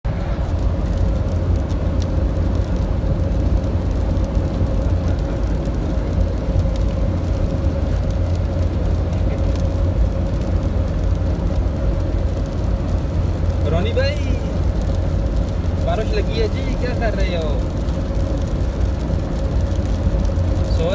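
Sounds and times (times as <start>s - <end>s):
deep rumble: 0.0s - 20.9s
heavy rain falling: 0.0s - 20.9s.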